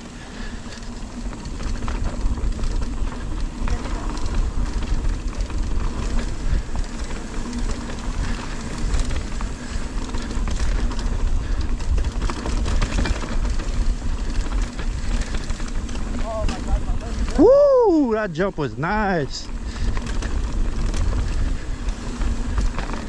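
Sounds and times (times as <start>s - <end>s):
bike clattering over bumps: 0.0s - 17.7s, 19.4s - 23.0s
bike tyres on dirt: 0.0s - 23.0s
wind buffeting microphone: 0.5s - 18.6s, 19.4s - 23.0s.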